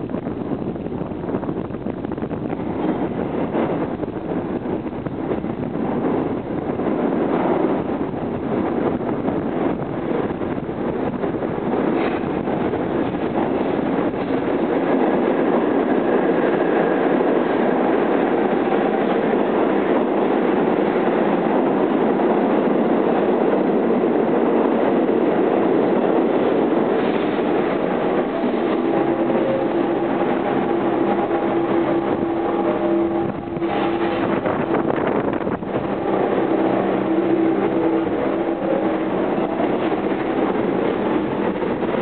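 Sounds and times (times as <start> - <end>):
multi-tone train hum: 0.0 - 42.0
subway train rumbling on rails: 0.0 - 42.0.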